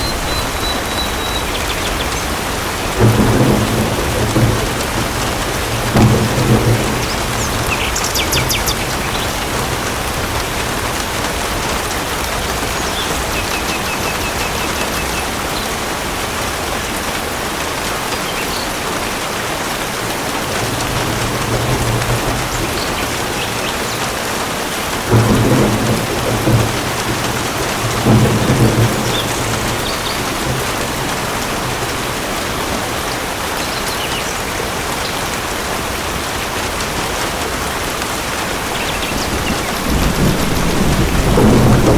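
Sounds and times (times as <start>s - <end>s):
heavy rain pouring: 0.0s - 41.9s
thunder rumbling: 0.0s - 41.9s.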